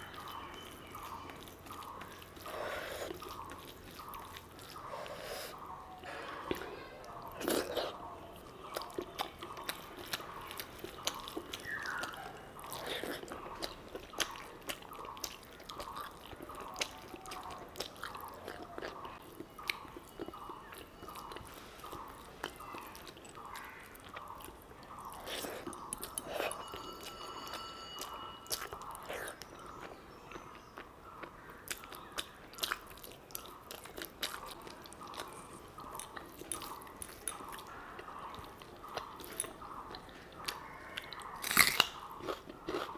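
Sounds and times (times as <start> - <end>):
chewing food: 0.0 - 42.9.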